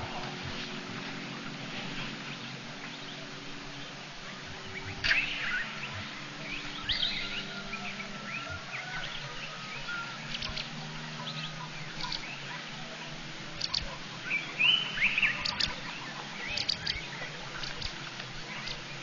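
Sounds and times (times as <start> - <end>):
bird gliding call: 0.0 - 19.0
birds chirping: 0.0 - 19.0.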